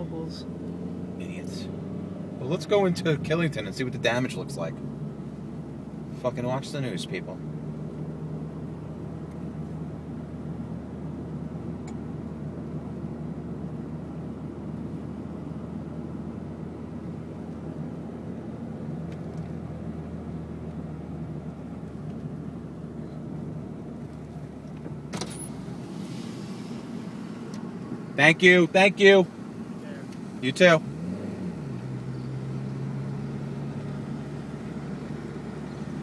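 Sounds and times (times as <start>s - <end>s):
car engine and tyres droning: 0.0s - 36.0s.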